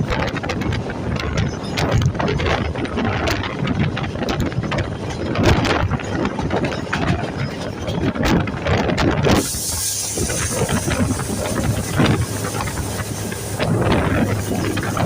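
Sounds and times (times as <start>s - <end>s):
low rumble: 0.0s - 15.0s
train wheels clattering on rails: 0.0s - 15.0s.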